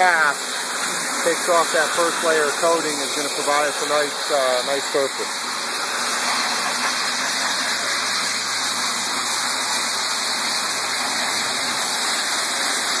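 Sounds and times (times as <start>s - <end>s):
floor sander rushing: 0.0s - 13.0s.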